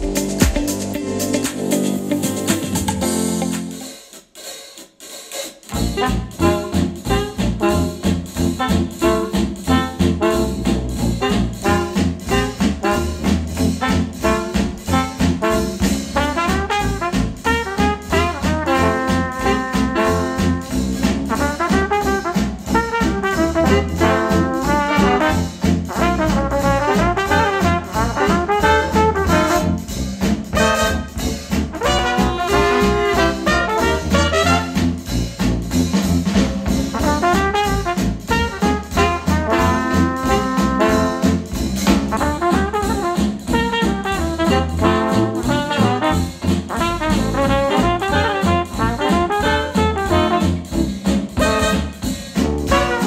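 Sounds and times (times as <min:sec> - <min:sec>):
jazz with brass over a beat: 0:00.0 - 0:53.0.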